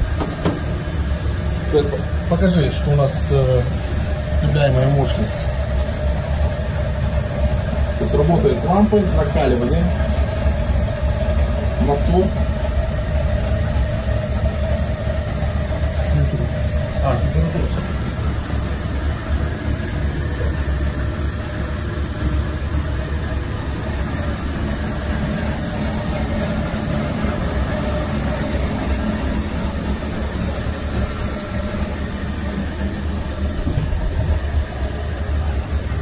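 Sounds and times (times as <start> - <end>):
fan whirring: 0.0 - 36.0.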